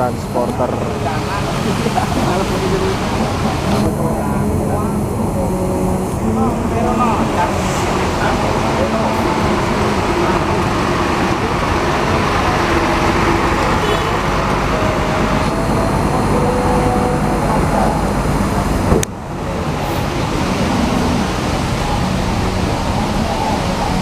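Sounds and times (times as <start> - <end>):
bus engines running: 0.0 - 24.0
rain hissing: 0.0 - 24.0
traffic noise: 0.0 - 24.0.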